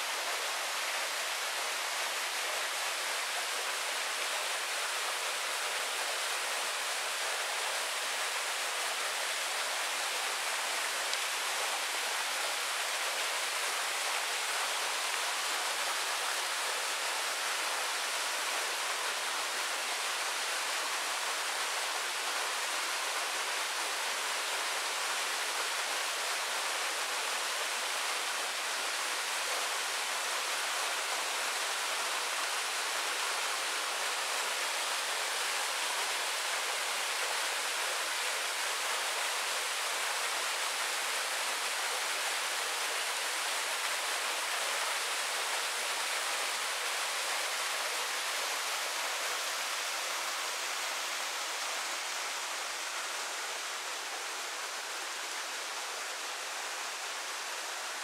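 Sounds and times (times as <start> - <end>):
waterfall rushing and splashing: 0.0 - 58.0.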